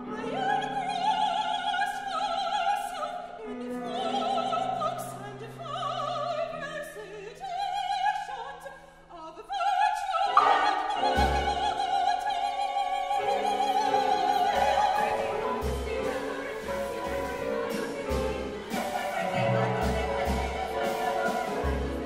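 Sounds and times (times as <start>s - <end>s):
opera singer with vibrato: 0.0s - 22.0s.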